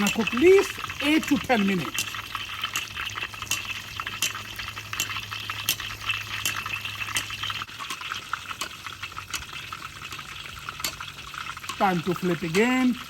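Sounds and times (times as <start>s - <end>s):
chicken deep-frying in hot oil: 0.0s - 13.0s.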